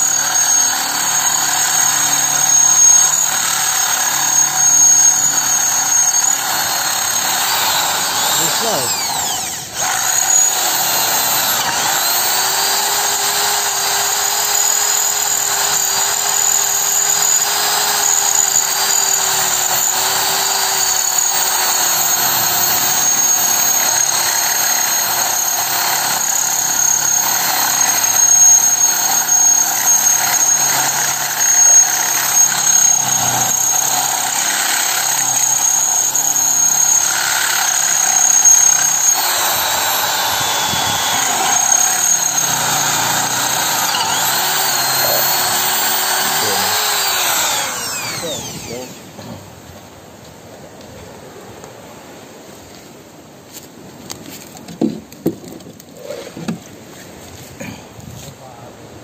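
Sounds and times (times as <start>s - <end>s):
electric drill motor whine: 0.0s - 49.4s.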